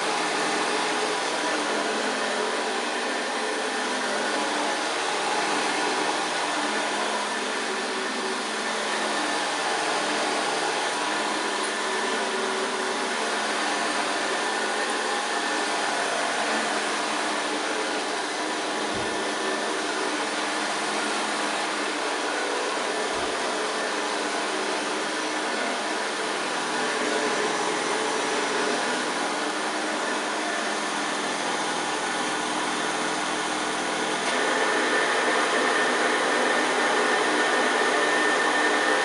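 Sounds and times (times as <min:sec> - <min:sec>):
upright vacuum cleaner running: 0:00.0 - 0:39.0.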